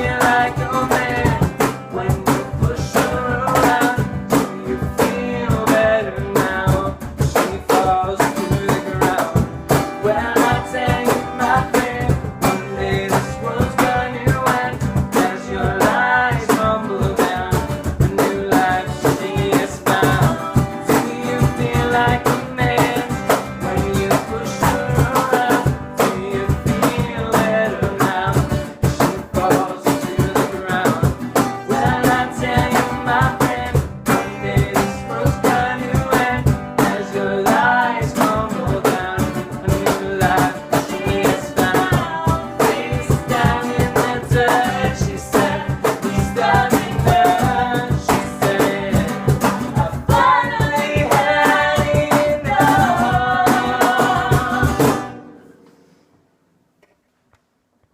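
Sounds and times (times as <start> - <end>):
rock band playing: 0.0 - 7.9, 8.6 - 55.2
person singing: 0.0 - 55.6.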